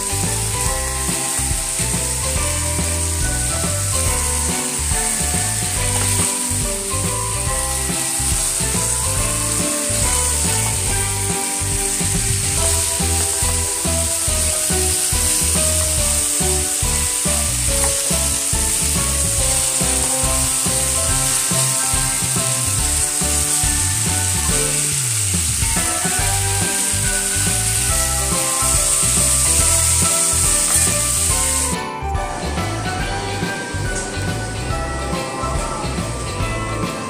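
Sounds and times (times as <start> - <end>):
background music with steady beat: 0.0 - 37.0
chicken sizzling in hot oil: 0.0 - 37.0.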